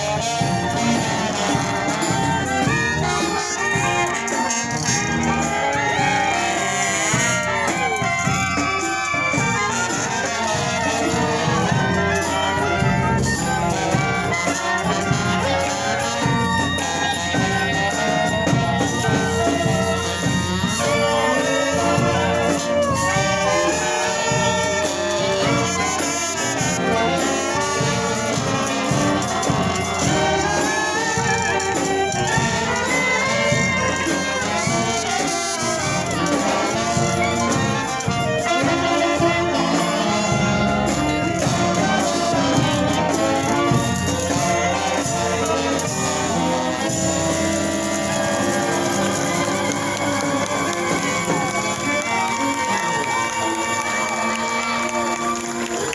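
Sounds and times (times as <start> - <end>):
brass band playing: 0.0 - 55.9.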